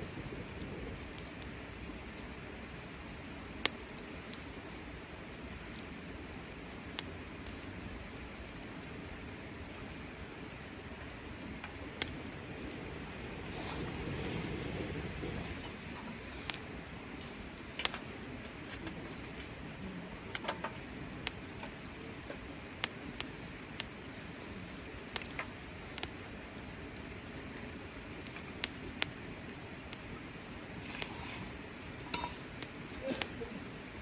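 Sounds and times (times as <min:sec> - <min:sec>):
low steady hiss: 0:00.0 - 0:34.0
wood fire crackling and popping: 0:00.0 - 0:34.0.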